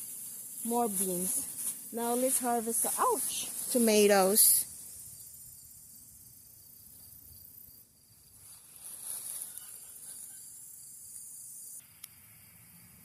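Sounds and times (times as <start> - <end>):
crickets chirring: 0.0 - 13.0
rustle: 0.0 - 13.0.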